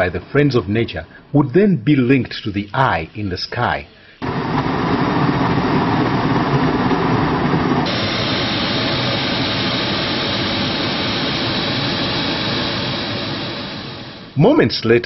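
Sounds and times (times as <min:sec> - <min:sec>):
propane burner roaring: 0:02.4 - 0:14.7.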